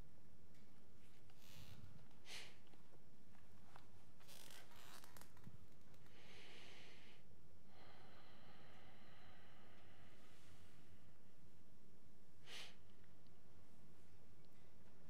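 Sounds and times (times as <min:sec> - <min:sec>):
soft breaths: 0:01.0 - 0:15.0.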